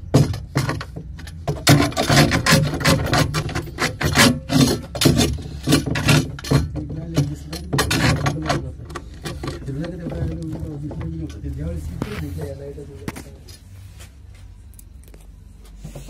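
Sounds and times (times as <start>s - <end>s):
rough scraping and rubbing: 1.4s - 16.0s.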